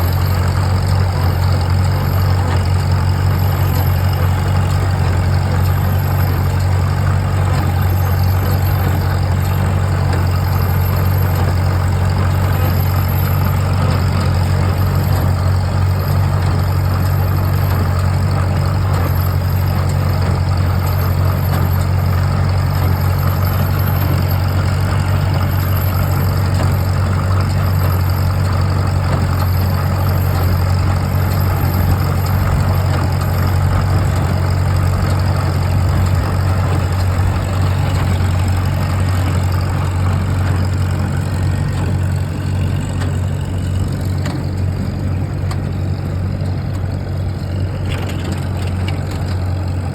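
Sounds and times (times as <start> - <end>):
tractor engine droning: 0.0 - 49.9.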